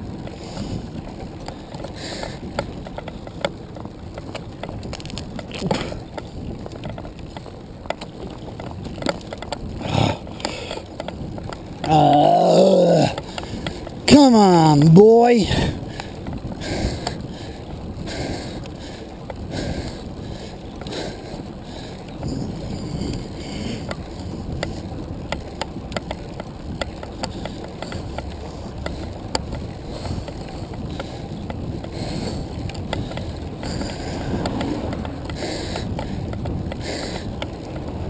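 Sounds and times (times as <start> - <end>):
wheels rolling on asphalt: 0.0 - 38.0
wind buffeting microphone: 0.0 - 38.0.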